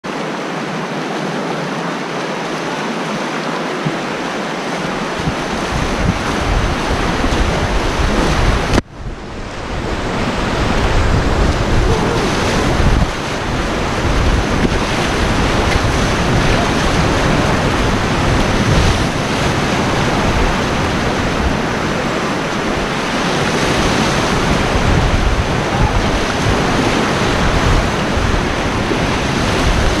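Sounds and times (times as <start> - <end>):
whitewater rushing and crashing: 0.0 - 30.0
wind buffeting microphone: 3.8 - 30.0.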